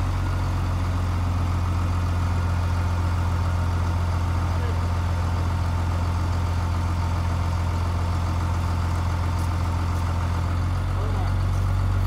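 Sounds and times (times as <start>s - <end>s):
crane engine idling: 0.0s - 12.0s.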